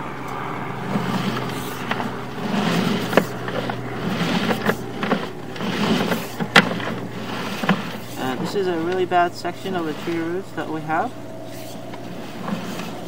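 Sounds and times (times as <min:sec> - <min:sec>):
steady low hum: 0:00.0 - 0:13.0
cable pulled through pipe: 0:00.8 - 0:13.0.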